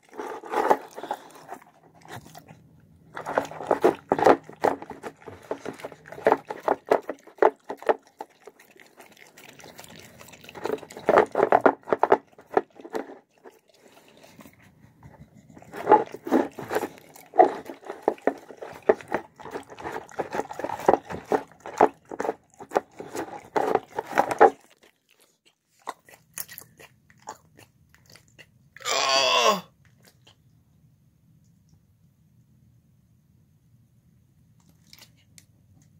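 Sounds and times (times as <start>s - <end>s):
dog chewing wet food: 0.0s - 28.8s, 34.6s - 35.9s.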